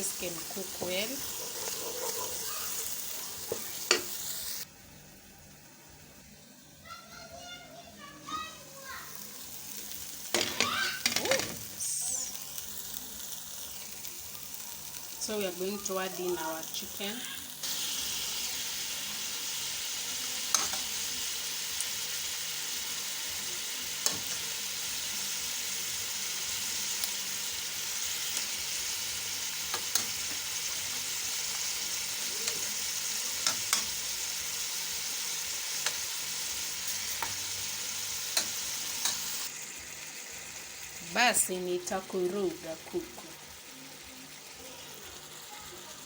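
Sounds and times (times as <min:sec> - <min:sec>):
chicken sizzling in hot oil: 0:00.0 - 0:46.0.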